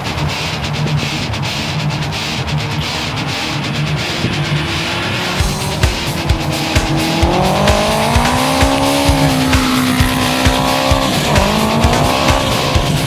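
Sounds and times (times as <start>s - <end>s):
heavy metal music: 0.0s - 13.0s
pounding drum beat: 0.0s - 13.0s.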